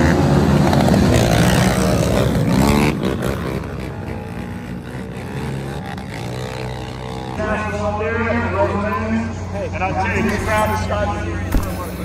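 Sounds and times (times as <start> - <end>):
racing engines revving: 0.0 - 12.0.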